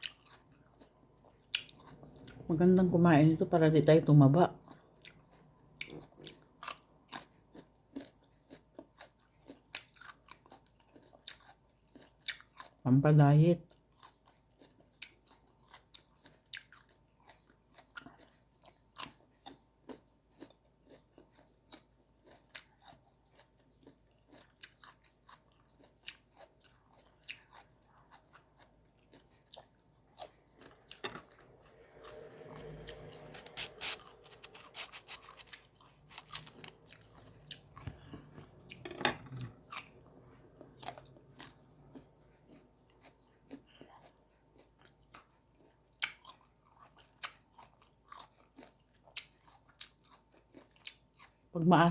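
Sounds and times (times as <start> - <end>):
crunching and chewing mango: 0.0 - 51.9.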